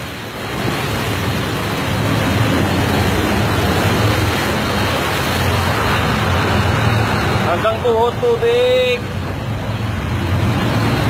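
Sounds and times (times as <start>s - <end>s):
waves around a boat: 0.0s - 11.0s.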